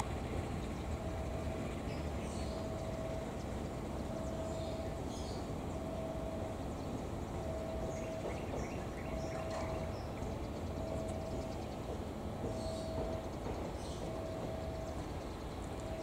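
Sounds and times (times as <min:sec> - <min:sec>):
birds chirping: 0:00.0 - 0:16.0
diesel locomotive rumbling: 0:00.0 - 0:16.0
electronic warning beeps: 0:00.0 - 0:16.0.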